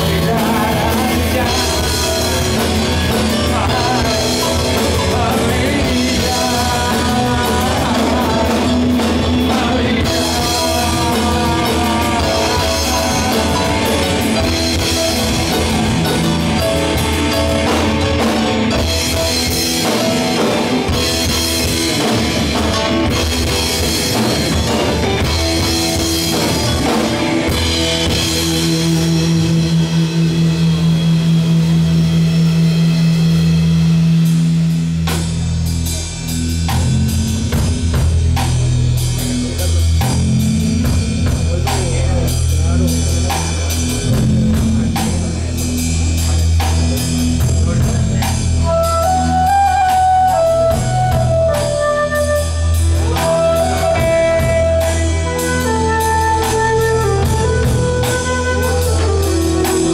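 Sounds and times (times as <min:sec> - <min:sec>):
drum kit: 0:00.0 - 0:59.9
electric bass: 0:00.0 - 0:59.9
rock band playing: 0:00.0 - 0:59.9.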